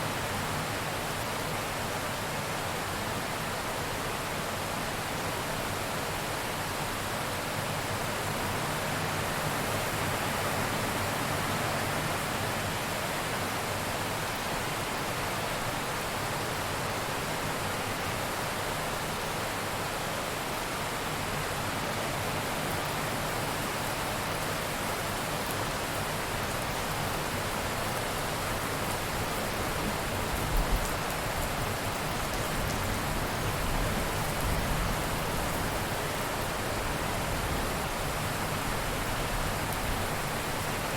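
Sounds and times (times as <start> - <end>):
heavy rain falling: 7.6 - 40.9.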